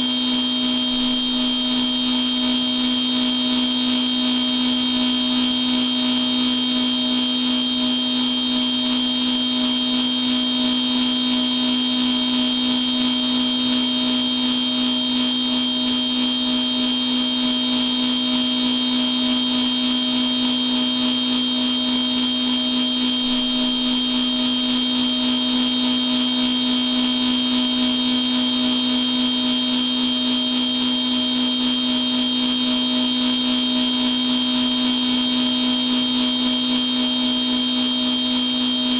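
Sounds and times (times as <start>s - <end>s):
machine whine and low hum: 0.0s - 38.9s.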